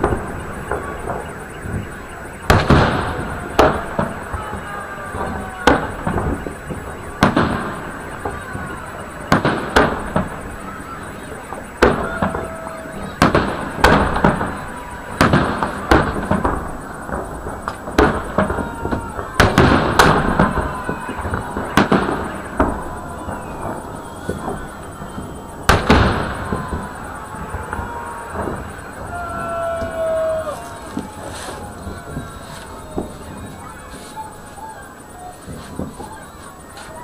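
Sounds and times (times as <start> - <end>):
firework bangs with echo: 0.0 - 37.0.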